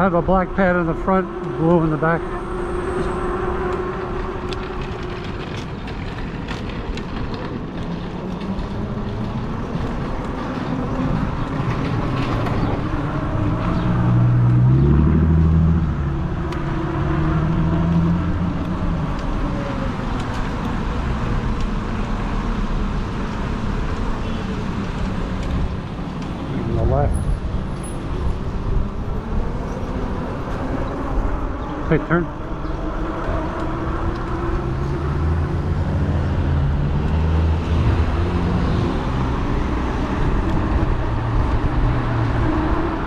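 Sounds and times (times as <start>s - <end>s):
road traffic noise: 0.0s - 43.0s
vehicle engine passing: 7.6s - 43.0s.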